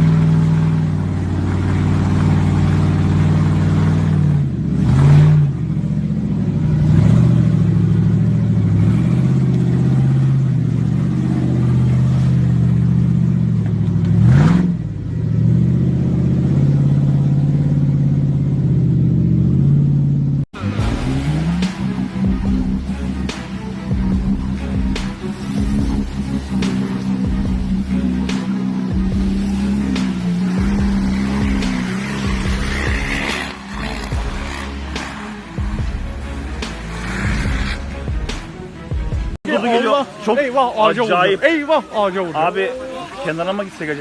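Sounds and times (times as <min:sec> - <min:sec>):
another engine: 0:00.0 - 0:39.4
off-road vehicle engine under load: 0:00.0 - 0:44.0.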